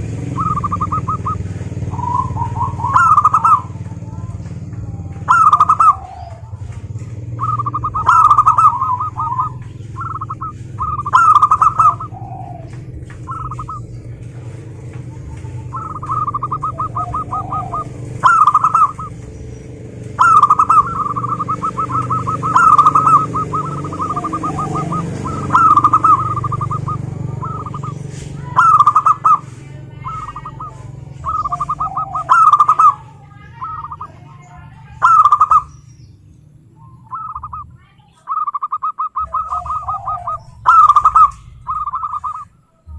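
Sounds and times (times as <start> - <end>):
dove cooing: 0.0 - 35.8, 36.7 - 42.9.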